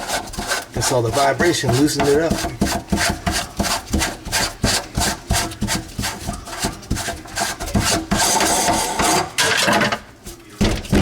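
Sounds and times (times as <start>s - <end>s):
metal scraping and rubbing: 0.0s - 11.0s.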